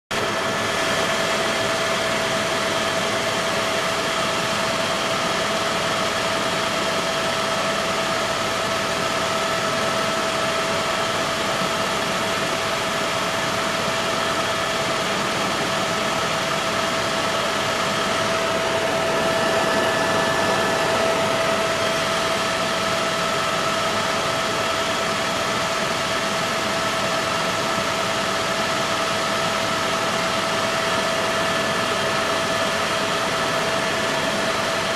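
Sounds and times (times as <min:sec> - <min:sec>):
helicopter engine and rotor: 0:00.1 - 0:34.9
steady whine: 0:00.1 - 0:34.9.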